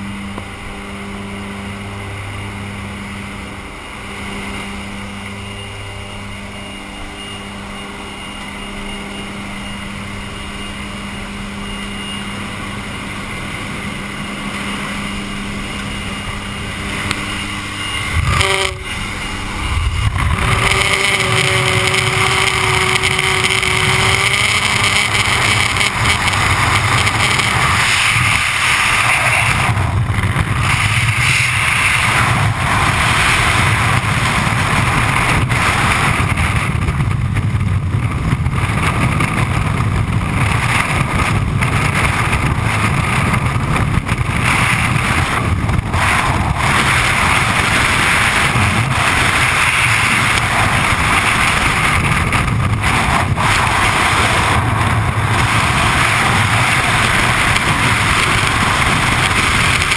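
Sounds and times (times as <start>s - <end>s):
wind buffeting microphone: 8.8s - 59.9s.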